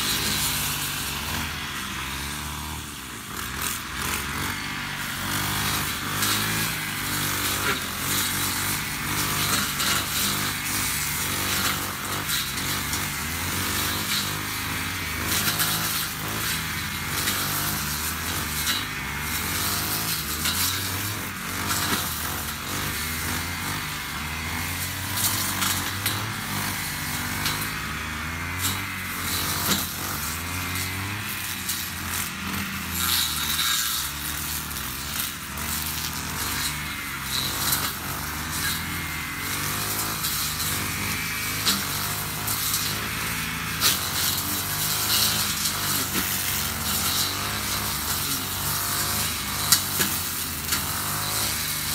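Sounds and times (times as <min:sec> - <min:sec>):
blade cutting tall grass: 0:00.0 - 0:51.9
brush cutter engine under load: 0:00.0 - 0:51.9.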